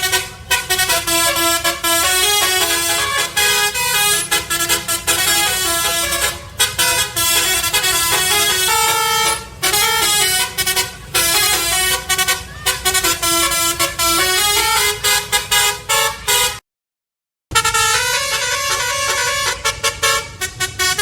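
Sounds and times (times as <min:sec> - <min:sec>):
truck musical horn tune: 0:00.0 - 0:16.6, 0:17.5 - 0:21.0.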